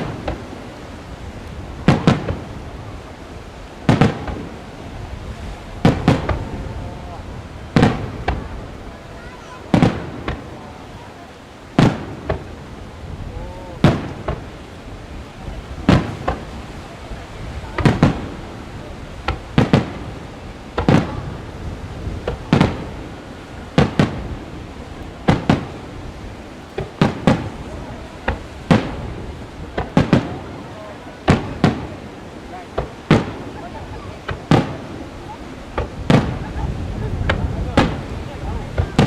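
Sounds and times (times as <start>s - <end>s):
fireworks bursting: 0.0s - 39.0s.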